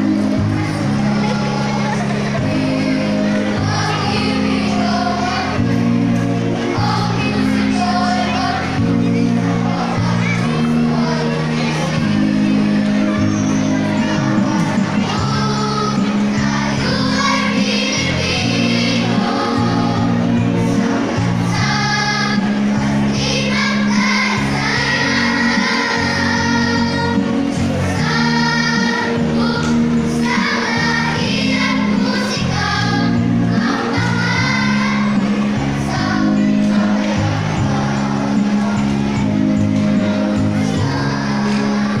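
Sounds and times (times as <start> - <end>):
children's choir singing: 0.0 - 42.0
instrumental accompaniment: 0.0 - 42.0.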